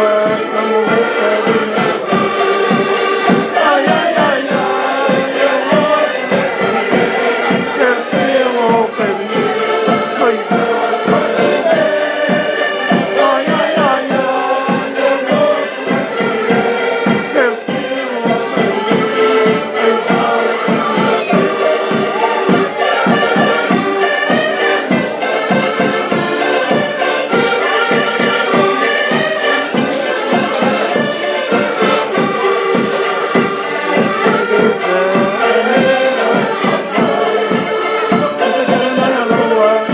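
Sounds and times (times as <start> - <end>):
button accordions playing together: 0.0 - 39.9
steady bass drum beat: 0.0 - 39.9
voices singing along: 0.0 - 39.9.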